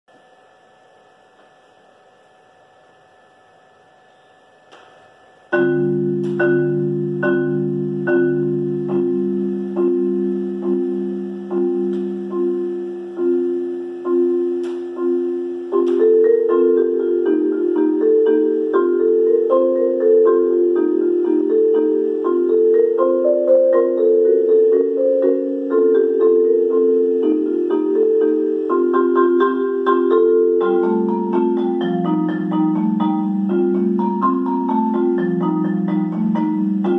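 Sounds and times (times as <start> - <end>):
solo marimba: 5.5 - 36.9.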